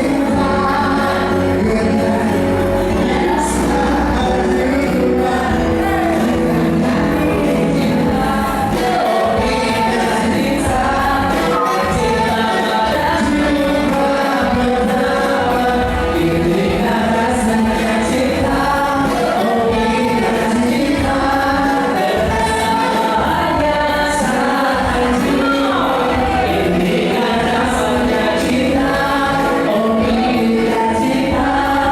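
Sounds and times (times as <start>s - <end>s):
voices singing with accompaniment: 0.0s - 31.9s.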